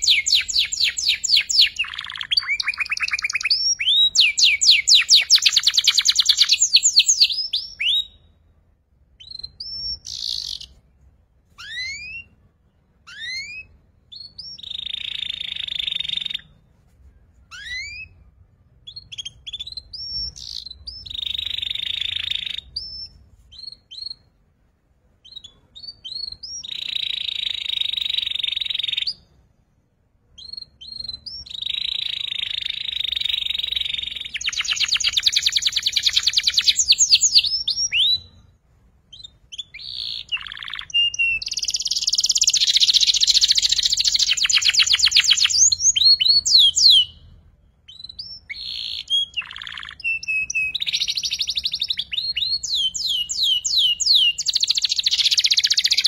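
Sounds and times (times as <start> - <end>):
canary singing: 0.0 - 8.4, 9.1 - 10.8, 11.5 - 16.6, 17.5 - 24.4, 25.2 - 29.4, 30.3 - 56.0.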